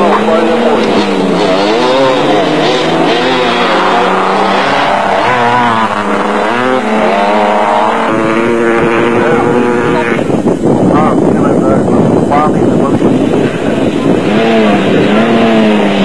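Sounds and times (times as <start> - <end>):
off-road vehicle engines revving: 0.0 - 16.0.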